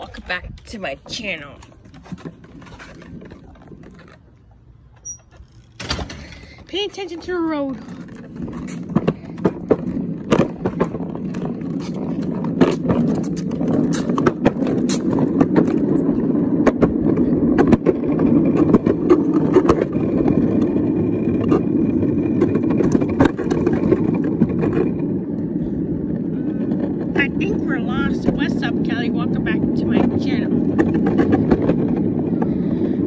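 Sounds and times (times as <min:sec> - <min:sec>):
plastic wheels rolling on concrete: 0:00.0 - 0:33.0
wheels clicking and knocking: 0:00.0 - 0:33.0.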